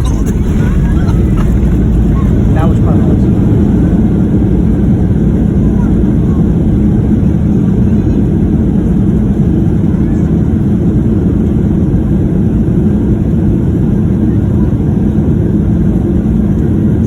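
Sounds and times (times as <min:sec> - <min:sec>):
airplane engines and landing gear rumble: 0:00.0 - 0:17.0.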